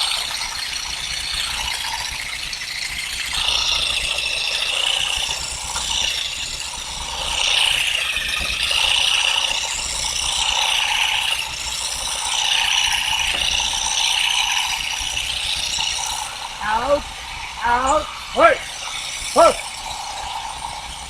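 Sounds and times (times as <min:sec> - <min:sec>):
high wavering whine: 0:01.0 - 0:21.0.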